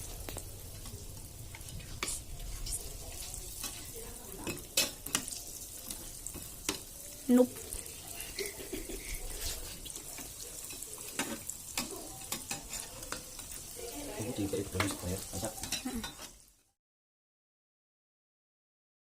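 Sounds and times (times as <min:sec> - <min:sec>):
corn dogs deep-frying in oil: 0:00.0 - 0:16.8.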